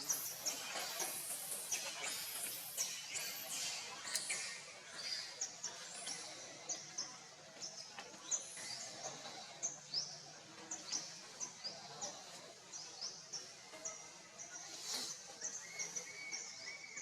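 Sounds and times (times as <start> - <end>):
birds chirping: 0.0 - 17.0
faint outdoor background noise: 0.0 - 17.0.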